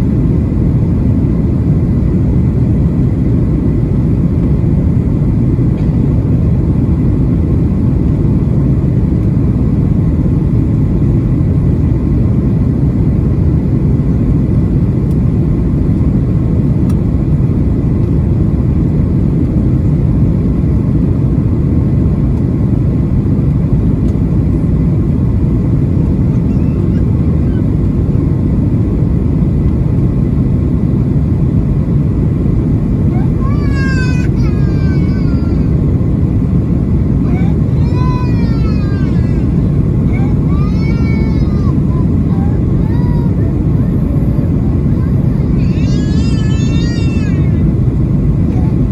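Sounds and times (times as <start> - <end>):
airplane cabin engine rumble: 0.0 - 48.9
faint steady whine: 0.0 - 48.9.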